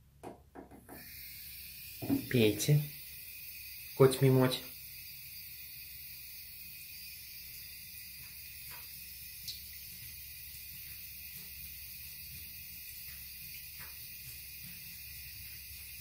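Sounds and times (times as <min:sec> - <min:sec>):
tap water running into bathtub: 0:00.2 - 0:16.0.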